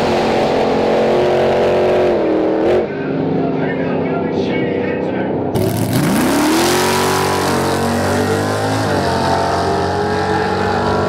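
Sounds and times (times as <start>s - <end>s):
drag car engines accelerating: 0.0s - 11.0s.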